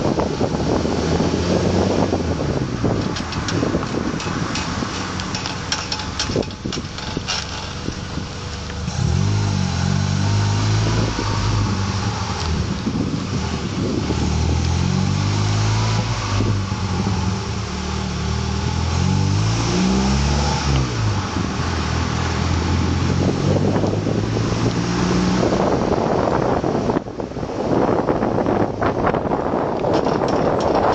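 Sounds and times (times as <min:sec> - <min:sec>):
car engine: 0:00.0 - 0:30.9
wind noise on microphone: 0:00.0 - 0:30.9.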